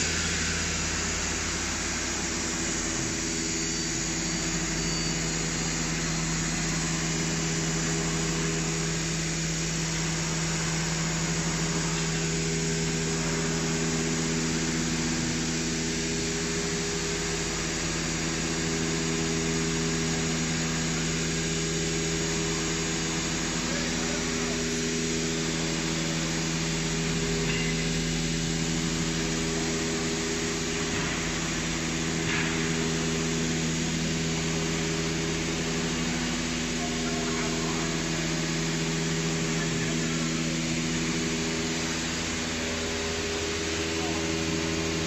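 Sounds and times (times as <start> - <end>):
router mechanical drone: 0.0 - 45.0.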